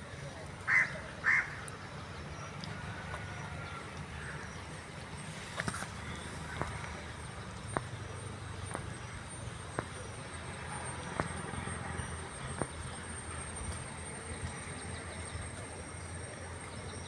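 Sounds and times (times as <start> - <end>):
low rumble of traffic or engine: 0.0 - 17.0.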